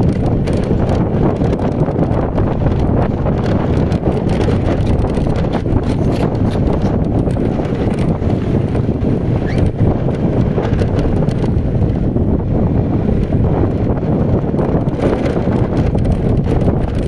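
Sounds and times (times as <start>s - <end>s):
motorcycle road noise: 0.0s - 17.0s
wind buffeting microphone: 0.0s - 17.0s.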